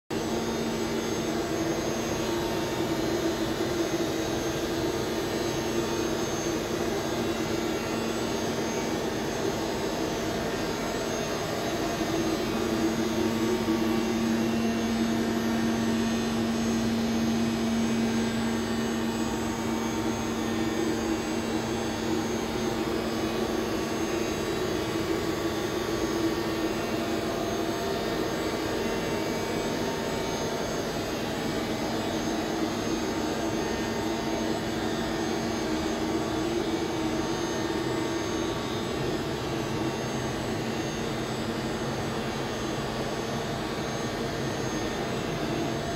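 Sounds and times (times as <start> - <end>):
lathe whirring hum: 0.2 - 45.9.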